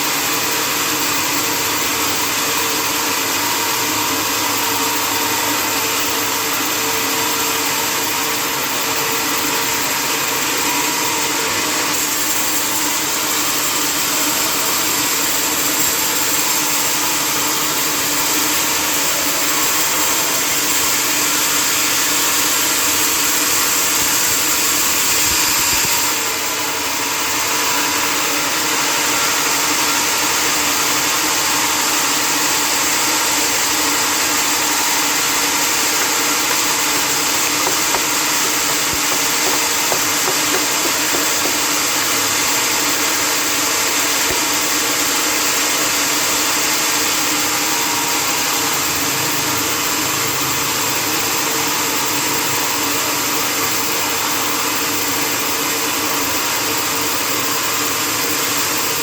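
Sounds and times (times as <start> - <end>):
sawmill machinery whirring: 0.1 - 50.9.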